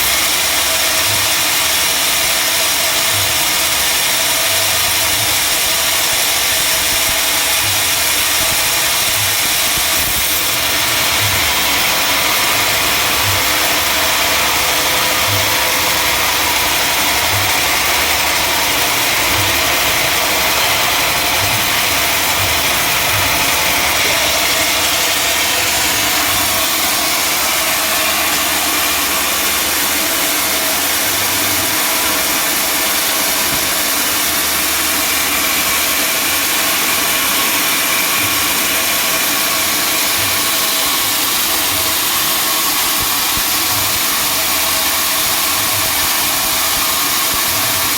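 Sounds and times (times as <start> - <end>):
sawmill machinery drone: 0.0 - 47.9.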